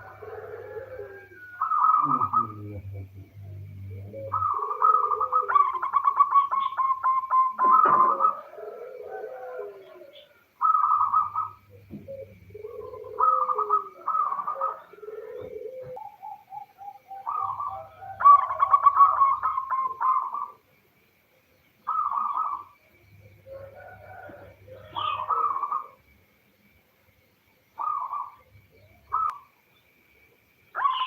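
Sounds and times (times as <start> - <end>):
dove cooing: 0.0 - 20.8, 21.8 - 26.1, 27.8 - 29.6, 30.8 - 31.0.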